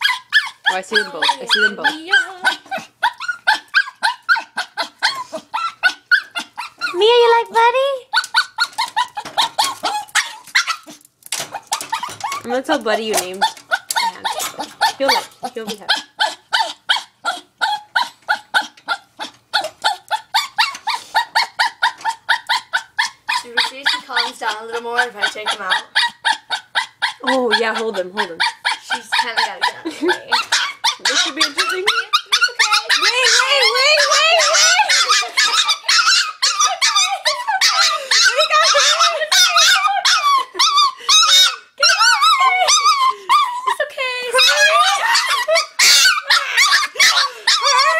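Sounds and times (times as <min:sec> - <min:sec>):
small dog yapping: 0:00.0 - 0:07.0, 0:08.1 - 0:12.5, 0:13.4 - 0:43.6, 0:44.4 - 0:47.9.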